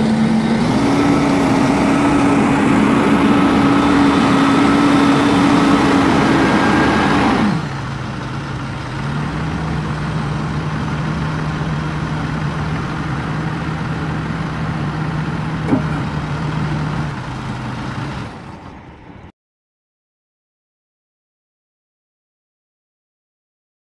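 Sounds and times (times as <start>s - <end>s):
diesel engine idling: 0.0s - 19.3s.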